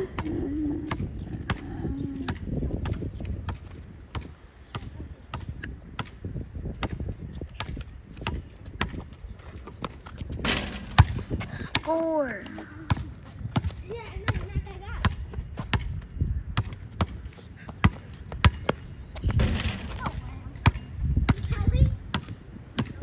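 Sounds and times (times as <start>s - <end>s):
basketball bouncing on hard court: 2.3s - 12.0s, 12.8s - 16.0s, 16.6s - 23.0s.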